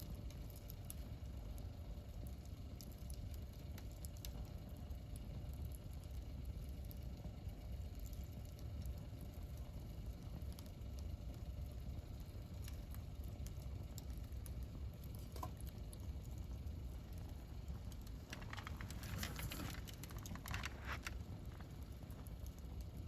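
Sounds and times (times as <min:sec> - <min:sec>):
campfire popping and crackling: 0:00.0 - 0:23.0
low fire rumble: 0:00.0 - 0:23.0.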